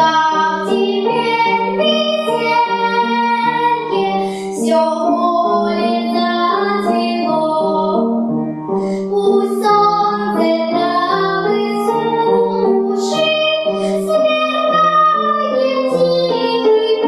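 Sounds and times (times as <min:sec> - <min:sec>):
girl singing: 0:00.0 - 0:08.0, 0:09.0 - 0:17.0
upright piano: 0:00.0 - 0:17.0.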